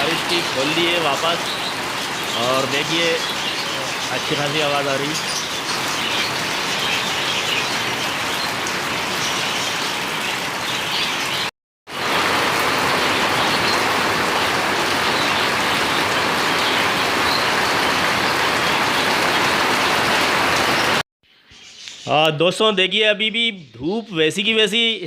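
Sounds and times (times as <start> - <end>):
rainfall hissing: 0.0 - 21.0.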